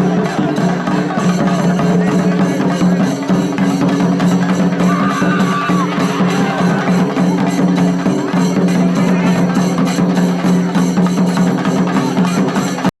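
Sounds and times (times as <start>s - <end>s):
drums in fast rhythm: 0.0s - 12.9s.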